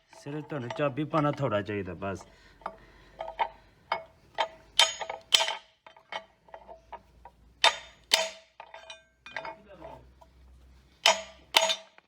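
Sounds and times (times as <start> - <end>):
metal parts clinking: 0.0 - 9.9, 11.0 - 12.0.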